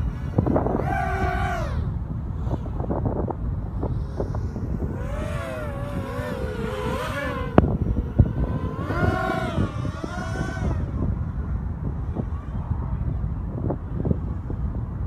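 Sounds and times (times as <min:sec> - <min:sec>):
drone motors whining: 0:00.0 - 0:13.2
wind noise on microphone: 0:00.0 - 0:15.0.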